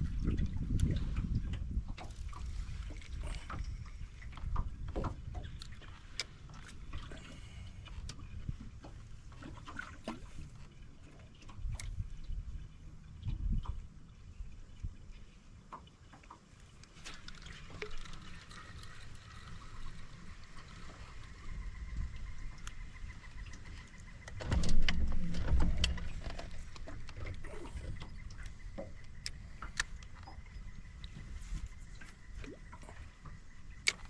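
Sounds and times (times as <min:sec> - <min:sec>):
wind and water rumble: 0:00.0 - 0:34.0.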